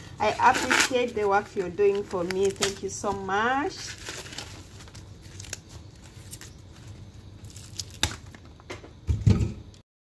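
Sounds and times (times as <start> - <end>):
corn husks rustling and crackling: 0.2 - 8.6.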